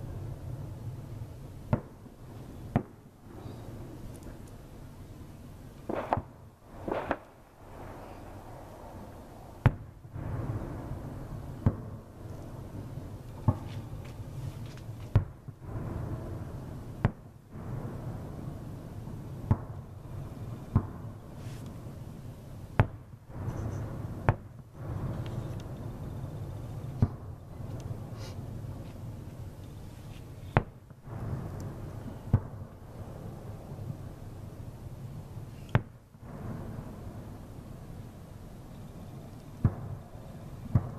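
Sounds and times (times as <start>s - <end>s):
distant firework bangs: 0.0s - 4.0s, 5.8s - 22.1s, 22.7s - 29.6s, 30.2s - 40.9s
low rolling echo: 0.0s - 40.9s.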